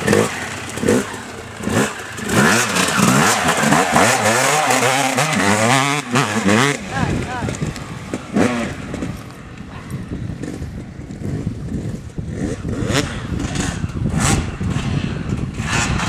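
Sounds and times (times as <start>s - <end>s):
motocross engine revving: 0.0s - 16.0s.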